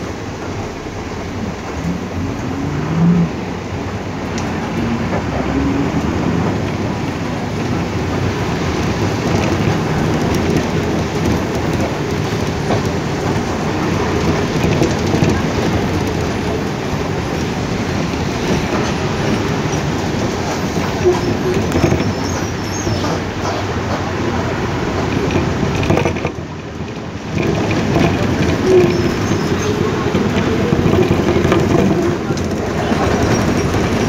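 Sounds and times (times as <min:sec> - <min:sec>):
rain on windows: 0:00.0 - 0:34.0
vehicle rumbling and rattling: 0:00.0 - 0:34.0.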